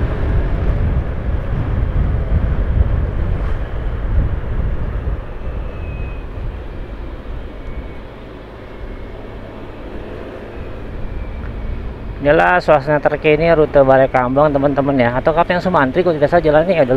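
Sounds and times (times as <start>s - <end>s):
vehicle engine and road noise: 0.0s - 16.9s
wind rumble: 0.0s - 16.9s.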